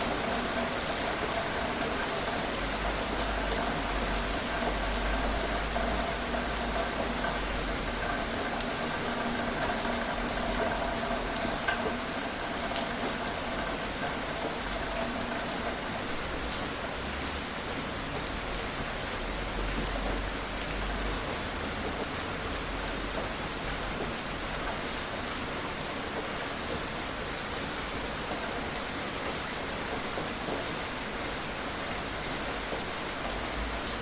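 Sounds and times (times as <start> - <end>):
gentle rain falling: 0.0 - 34.0.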